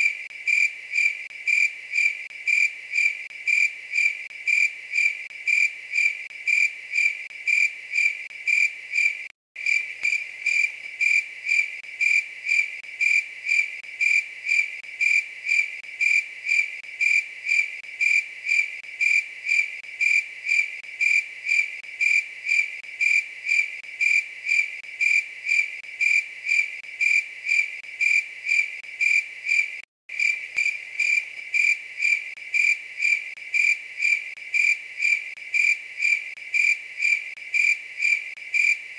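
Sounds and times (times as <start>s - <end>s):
grasshopper chirping: 0.0s - 38.8s.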